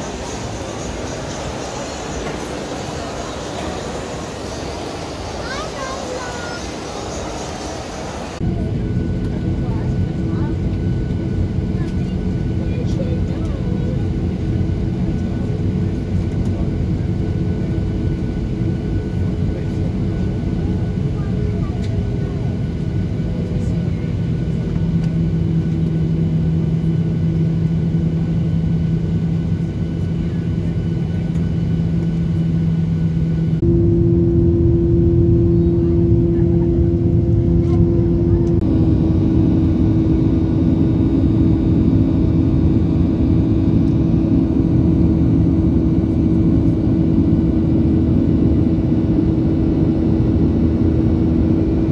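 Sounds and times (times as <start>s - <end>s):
airliner engine drone in cabin: 0.0s - 51.9s.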